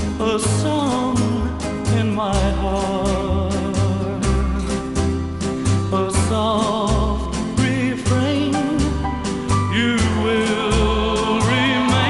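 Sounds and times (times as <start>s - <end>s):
pop record playing: 0.0s - 12.0s.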